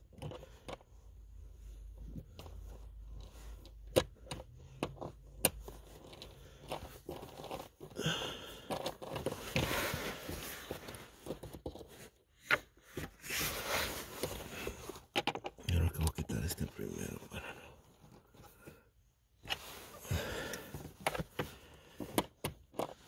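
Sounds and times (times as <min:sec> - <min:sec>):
wiring harness rustling and crinkling: 0:00.0 - 0:23.0.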